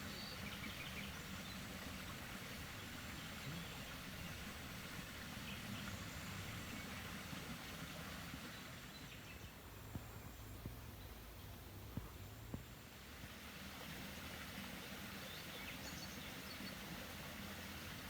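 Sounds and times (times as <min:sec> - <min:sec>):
even outdoor hiss: 0:00.0 - 0:18.0.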